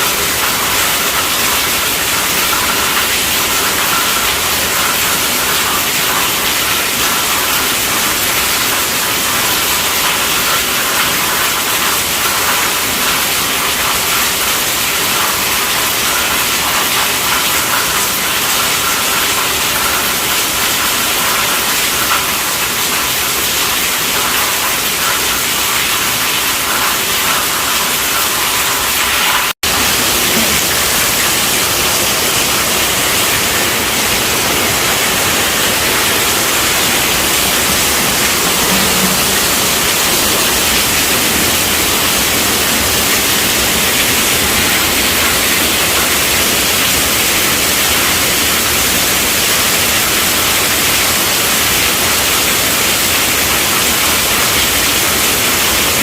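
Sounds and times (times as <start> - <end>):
heavy rain drumming on a tent roof: 0.0 - 56.0.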